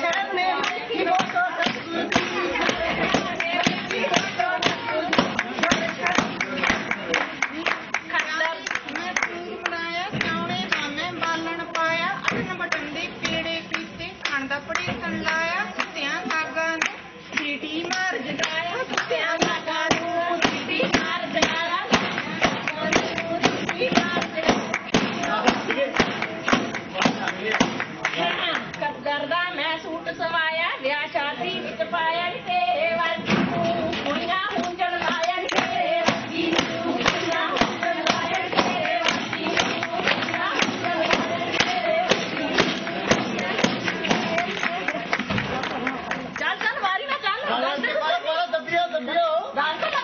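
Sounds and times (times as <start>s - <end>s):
women singing folk songs: 0.0s - 26.0s, 28.8s - 45.6s
sharp rhythmic beats: 0.0s - 28.8s, 32.5s - 47.2s
group hand-clapping: 0.0s - 28.9s, 33.2s - 47.2s.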